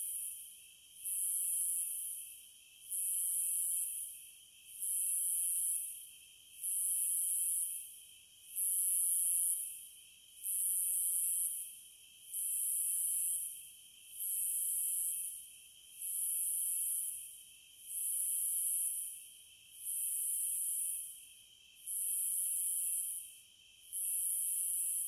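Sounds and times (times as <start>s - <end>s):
low insect hum: 0.0s - 25.0s.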